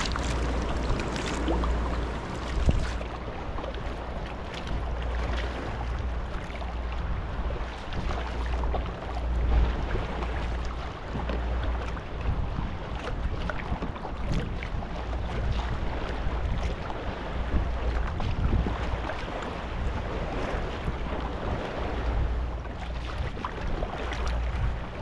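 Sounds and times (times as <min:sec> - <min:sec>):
low wind rumble: 0:00.0 - 0:25.0
paddle blades splashing: 0:00.0 - 0:25.0
water lapping along hull: 0:00.0 - 0:25.0.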